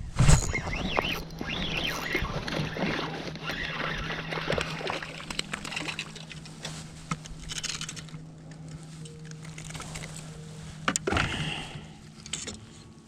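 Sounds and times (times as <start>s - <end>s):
water sloshing and trickling: 0.4s - 12.8s.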